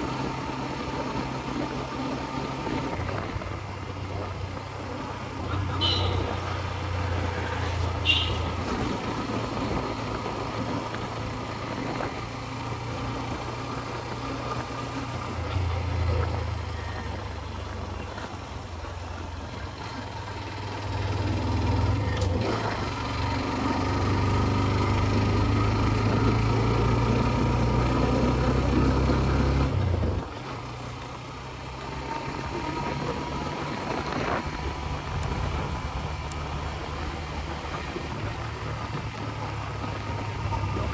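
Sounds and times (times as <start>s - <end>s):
scooter engine running: 0.0s - 40.9s.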